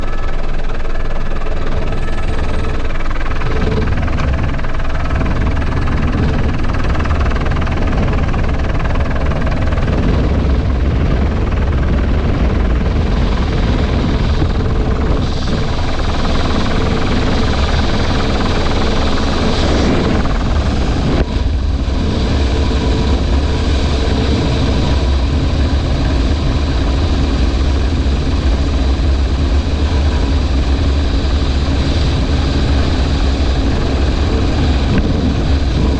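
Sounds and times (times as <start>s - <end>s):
helicopter engine and rotor: 0.0s - 35.9s.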